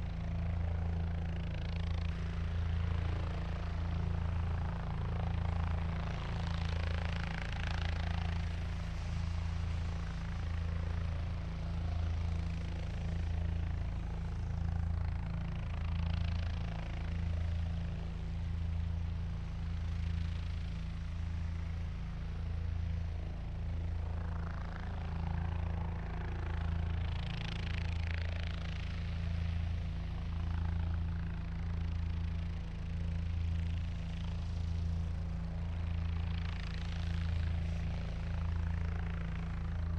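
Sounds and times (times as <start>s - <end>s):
helicopter rotor throb: 0.0s - 39.9s.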